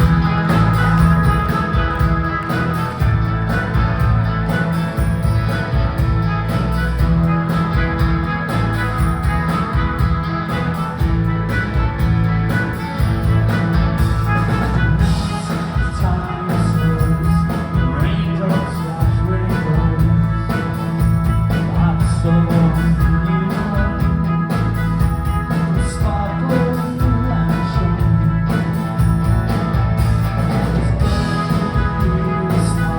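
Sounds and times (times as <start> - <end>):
live pop-rock band playing: 0.0 - 32.9
steady drum beat: 0.0 - 32.9.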